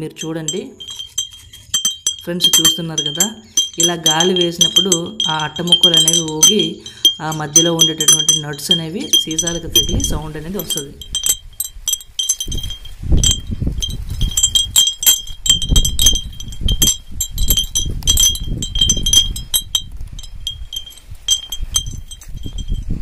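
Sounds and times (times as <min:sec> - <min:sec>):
glass bottles clinking: 0:00.2 - 0:22.8
wind rumble on microphone: 0:01.7 - 0:23.0.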